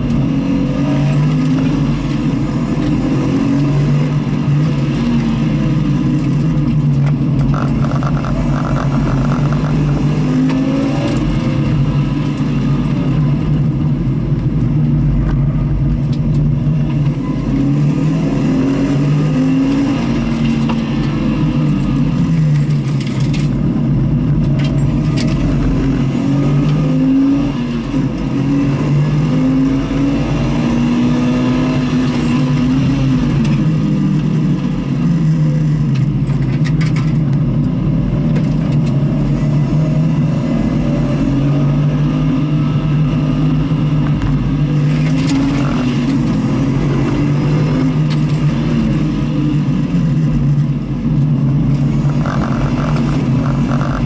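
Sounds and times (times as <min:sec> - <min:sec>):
race car engine revving: 0:00.0 - 0:54.0
wind and road noise: 0:00.0 - 0:54.0.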